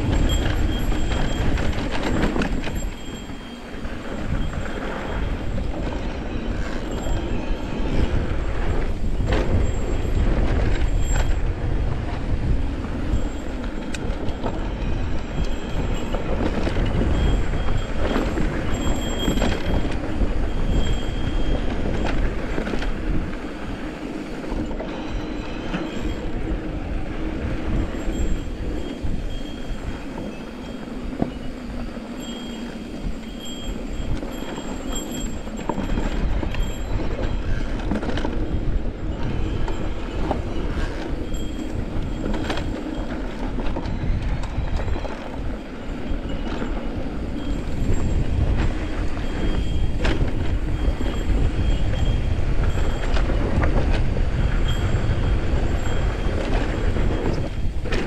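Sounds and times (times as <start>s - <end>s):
bike rattling and knocking: 0.0s - 58.0s
bike tyres rumbling over stones: 0.0s - 58.0s
wind on microphone: 0.0s - 58.0s.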